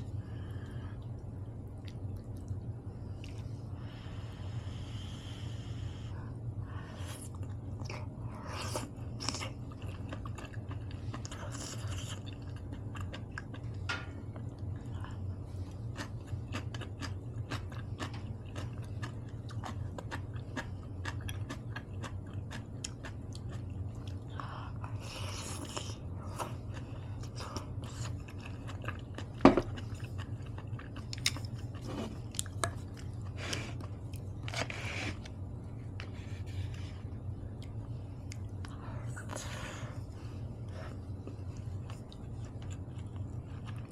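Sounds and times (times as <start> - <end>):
low hum: 0.0 - 43.9
person chewing food: 6.8 - 43.9.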